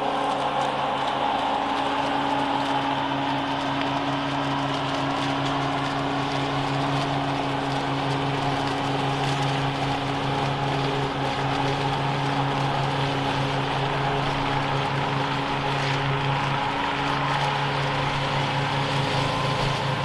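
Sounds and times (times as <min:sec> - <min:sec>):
lawn mower engine running: 0:00.0 - 0:20.0
mower blade cutting grass: 0:00.0 - 0:20.0.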